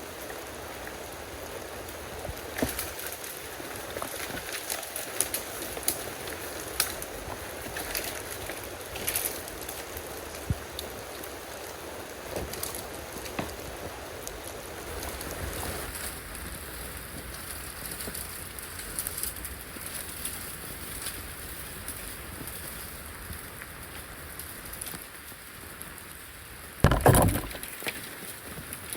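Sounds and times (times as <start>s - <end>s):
rain falling steadily: 0.0s - 28.9s.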